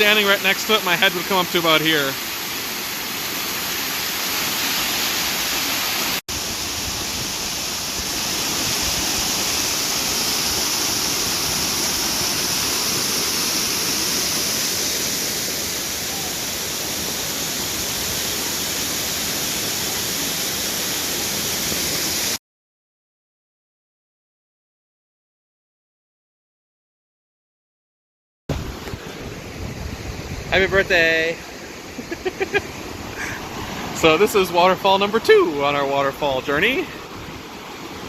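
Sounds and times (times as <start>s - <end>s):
waterfall rushing: 0.0s - 22.4s, 28.5s - 38.0s.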